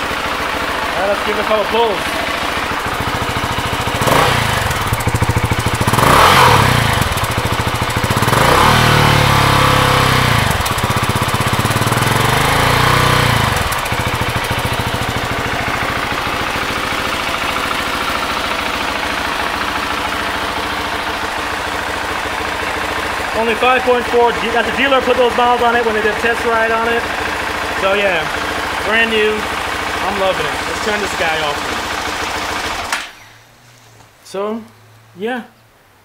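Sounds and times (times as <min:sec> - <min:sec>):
motorcycle engine idling: 0:00.0 - 0:33.8
motorcycle engine revving: 0:00.0 - 0:34.0.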